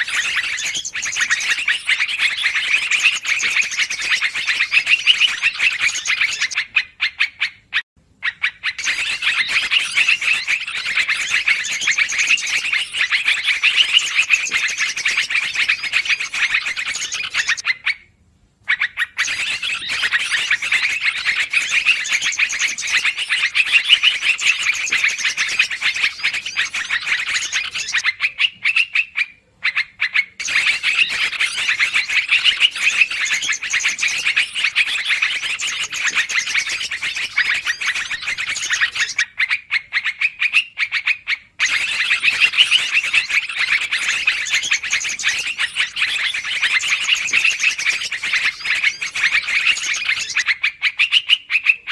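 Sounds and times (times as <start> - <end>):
bulbul chattering calls: 0.0 - 7.6, 8.2 - 18.0, 18.7 - 51.9.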